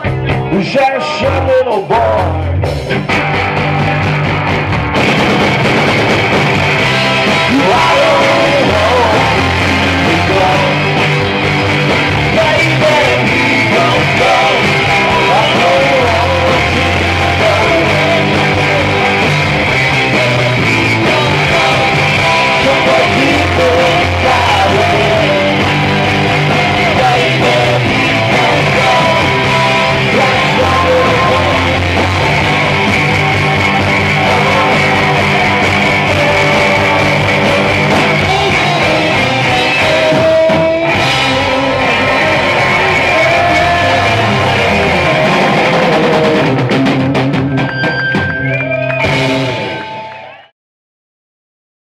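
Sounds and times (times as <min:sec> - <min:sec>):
live rock band playing: 0:00.0 - 0:50.5.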